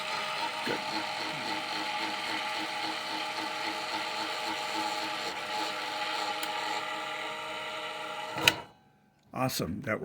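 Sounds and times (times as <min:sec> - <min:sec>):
electric motor whirring: 0:00.0 - 0:08.6.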